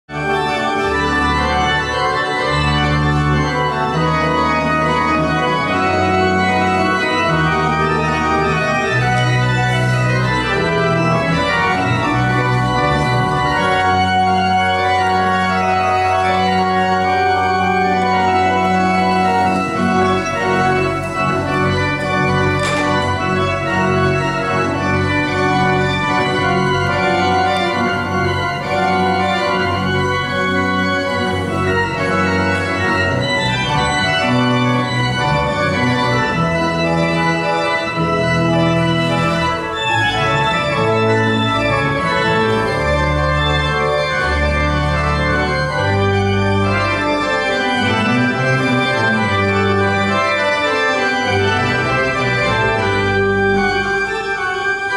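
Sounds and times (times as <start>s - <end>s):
low organ pedal notes: 0.1s - 54.9s
pipe organ chords: 0.1s - 54.9s.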